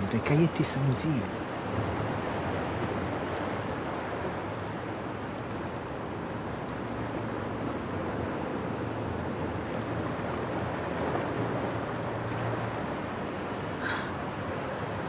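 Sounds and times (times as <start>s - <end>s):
sea waves washing: 0.0s - 15.0s.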